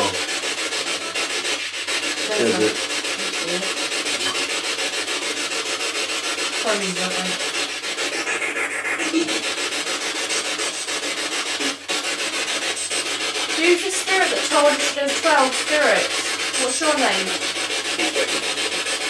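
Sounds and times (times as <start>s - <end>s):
radio static rasp: 0.0s - 5.2s, 8.0s - 18.7s.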